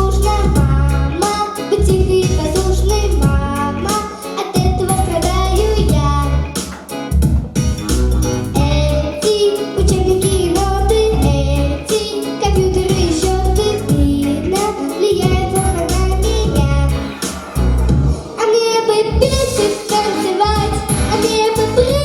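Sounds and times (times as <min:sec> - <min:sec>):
girl singing pop song: 0:00.0 - 0:06.7, 0:08.5 - 0:22.0
backing music with bass beat: 0:00.0 - 0:18.4, 0:19.0 - 0:22.0.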